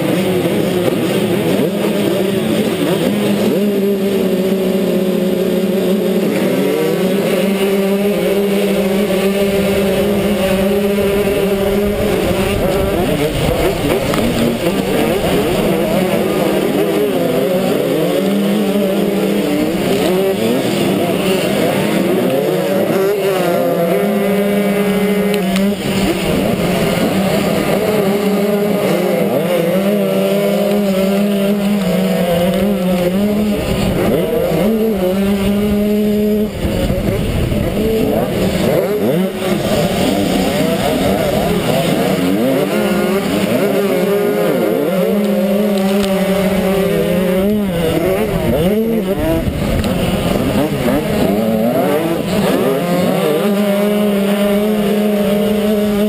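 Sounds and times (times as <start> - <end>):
motocross bike engines racing: 0.0 - 56.0.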